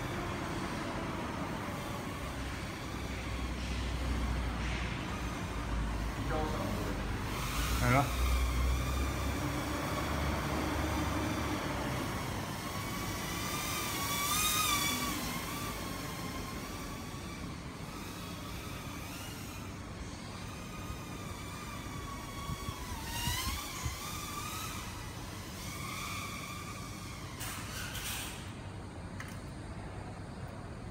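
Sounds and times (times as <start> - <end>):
quadcopter propellers whining: 0.0 - 4.4, 5.1 - 28.5.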